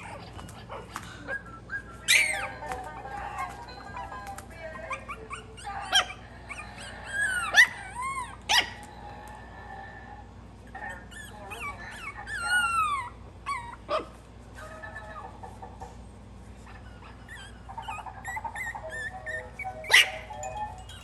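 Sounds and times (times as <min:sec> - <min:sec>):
puppies whining and yelping: 0:00.0 - 0:09.4, 0:10.6 - 0:15.8, 0:16.5 - 0:21.0.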